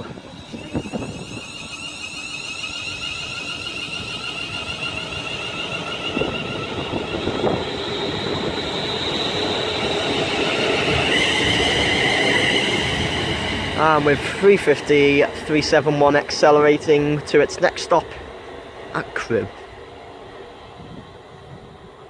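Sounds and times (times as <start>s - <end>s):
electric train whine accelerating: 0.0s - 22.0s.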